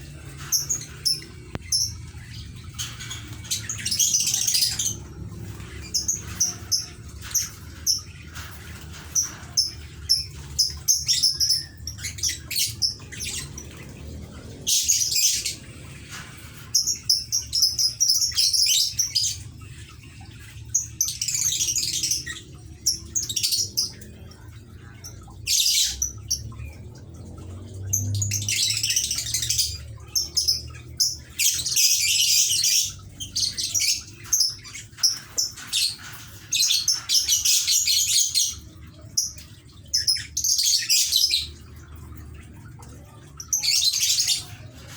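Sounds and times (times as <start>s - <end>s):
lovebirds chattering and squawking: 0.0s - 44.9s.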